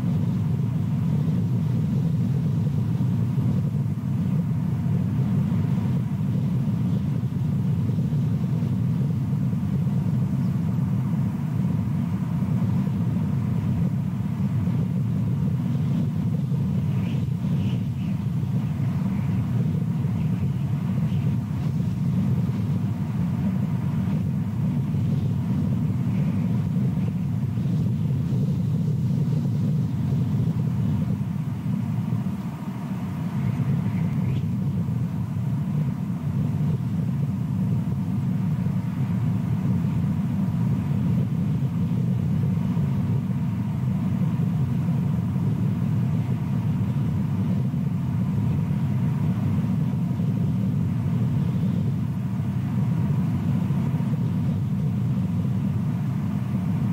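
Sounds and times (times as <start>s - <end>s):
low outdoor rumble: 0.0s - 56.9s.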